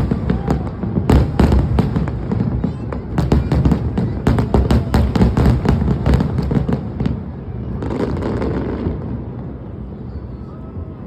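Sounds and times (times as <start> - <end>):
fireworks crackle: 0.0 - 10.0
fireworks bangs: 0.0 - 10.3.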